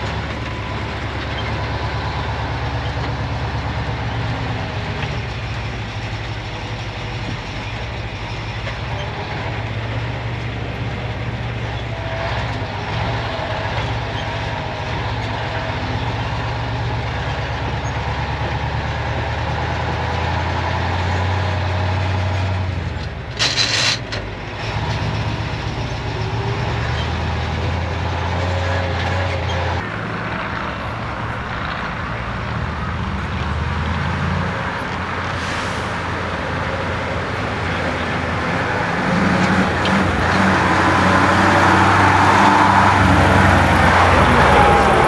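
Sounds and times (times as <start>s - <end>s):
truck diesel engine drone: 0.0s - 45.0s.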